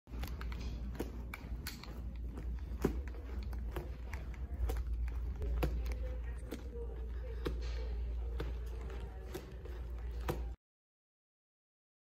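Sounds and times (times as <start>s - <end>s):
footsteps walking: 0.1s - 10.6s.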